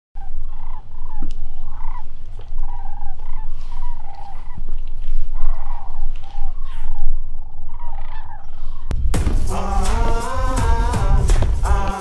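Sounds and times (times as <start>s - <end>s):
cranes calling: 0.2s - 8.9s, 9.5s - 12.0s
steady low rumble: 0.2s - 12.0s.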